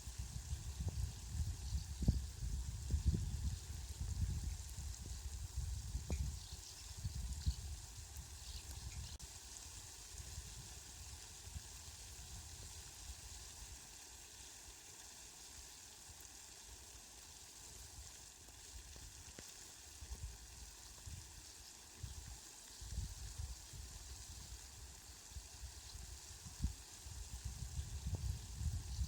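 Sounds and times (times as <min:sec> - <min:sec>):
faint rain hiss: 0:00.0 - 0:29.0.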